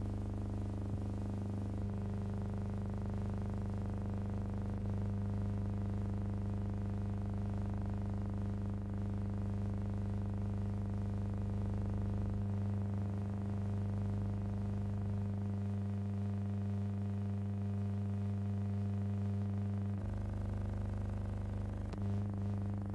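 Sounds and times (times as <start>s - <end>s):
low electrical hum: 0.0s - 22.9s.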